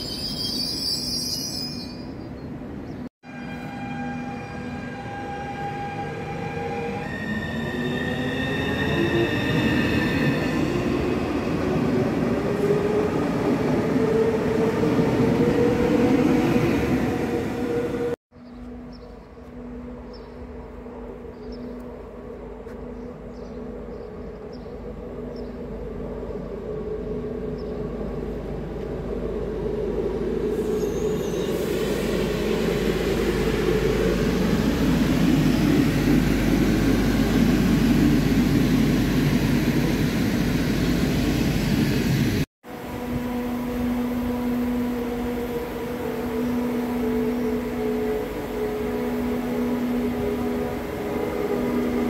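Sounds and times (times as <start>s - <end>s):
diesel railcar approaching: 0.0s - 52.0s.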